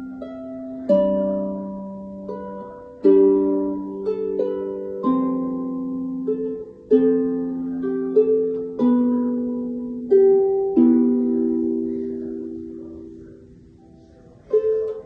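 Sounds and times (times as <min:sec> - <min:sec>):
harp playing slow melody: 0:00.0 - 0:15.0.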